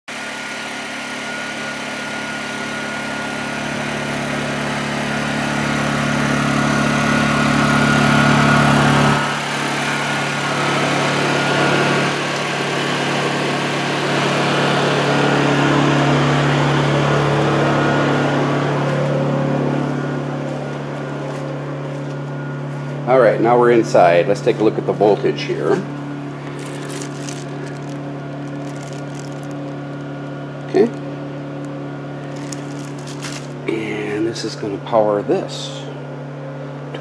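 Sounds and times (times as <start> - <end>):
generator engine humming: 0.1 - 37.0.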